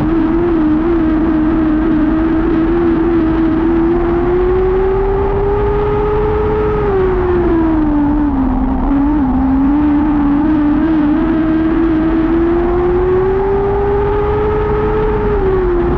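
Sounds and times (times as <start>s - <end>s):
racing engine at high revs: 0.0s - 15.9s.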